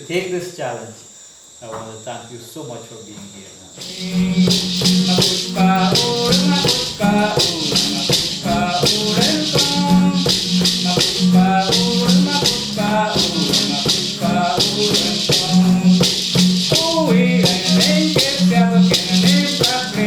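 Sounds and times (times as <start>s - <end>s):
maraca rattle rhythm: 3.7s - 20.0s.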